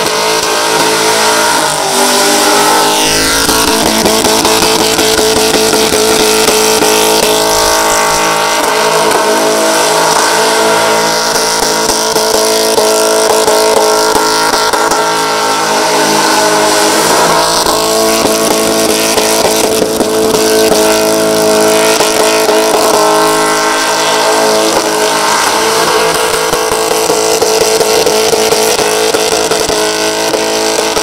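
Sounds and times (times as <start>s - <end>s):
car engine revving high: 0.0s - 31.0s.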